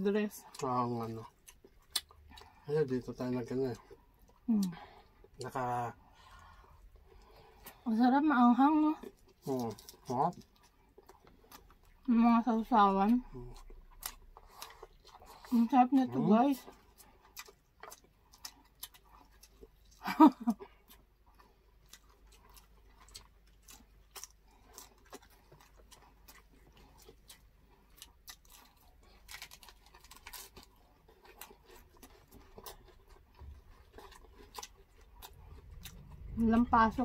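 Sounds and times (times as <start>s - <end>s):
chewing and mouth sounds: 0.2s - 7.8s, 8.9s - 12.1s, 12.7s - 37.0s.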